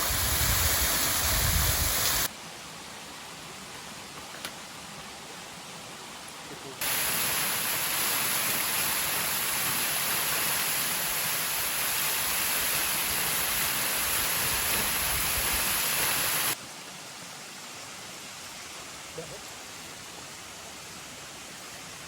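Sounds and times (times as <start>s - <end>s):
rushing falling water: 0.0s - 22.0s.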